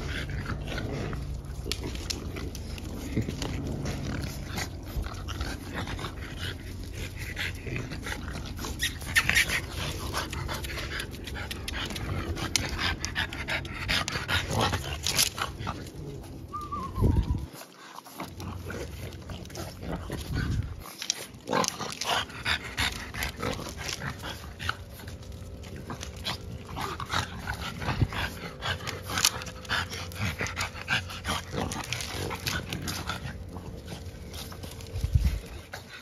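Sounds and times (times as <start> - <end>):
dogs making play noises: 0.0 - 36.0
paws clicking on concrete: 0.0 - 36.0.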